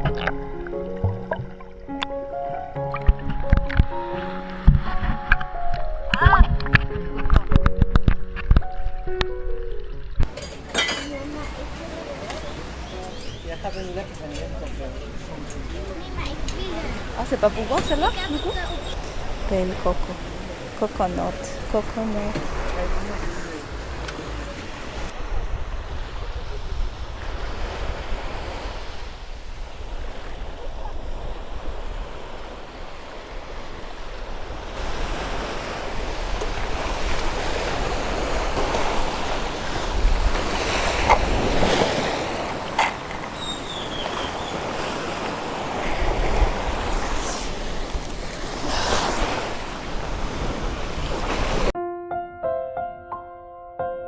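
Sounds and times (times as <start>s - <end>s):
wind rumbling on microphone: 0.0s - 10.4s, 11.2s - 51.8s
sea waves washing on shore: 0.0s - 51.8s.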